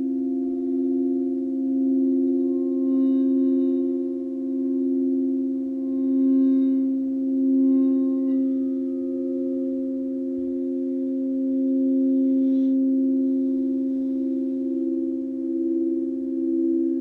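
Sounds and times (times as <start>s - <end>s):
drone of sustained pure tones: 0.0s - 17.0s.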